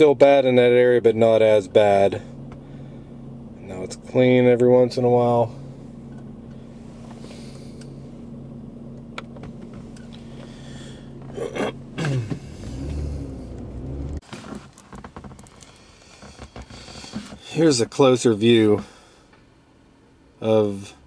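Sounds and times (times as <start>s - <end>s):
car engine running: 0.0s - 19.5s.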